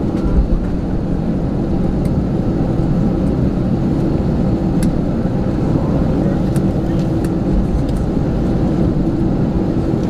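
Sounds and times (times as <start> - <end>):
jet engines low rumble in cabin: 0.0 - 10.0.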